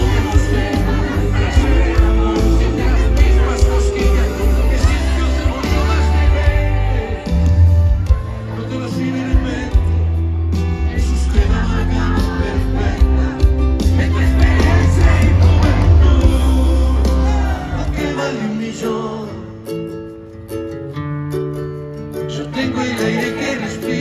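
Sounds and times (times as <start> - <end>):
live band playing loudly: 0.0 - 20.5.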